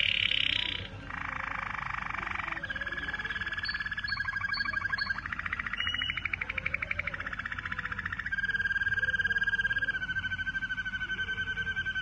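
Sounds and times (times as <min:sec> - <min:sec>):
canary trilling song: 0:00.0 - 0:12.0.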